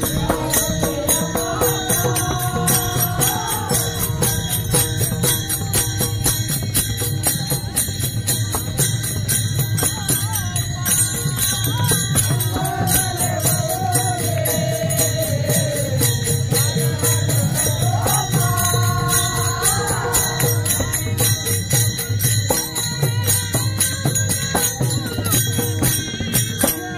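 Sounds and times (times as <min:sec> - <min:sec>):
hand cymbals clashing: 0:00.0 - 0:26.9.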